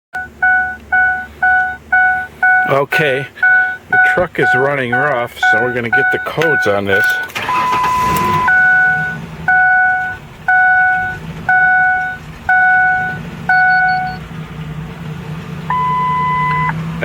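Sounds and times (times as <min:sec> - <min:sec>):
two-tone electronic beeps: 0:00.1 - 0:02.8, 0:03.4 - 0:14.2, 0:15.7 - 0:16.8
car engine idling rough: 0:00.2 - 0:17.0.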